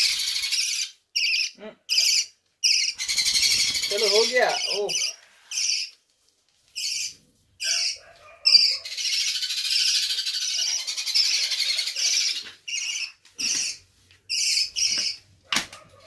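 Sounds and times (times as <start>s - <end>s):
parrots calling and chattering: 0.0s - 6.0s, 6.7s - 16.0s.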